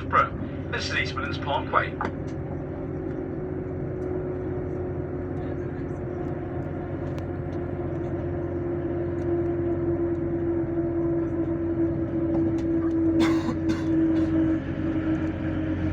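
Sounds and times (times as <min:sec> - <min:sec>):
train running rumble: 0:00.0 - 0:15.9.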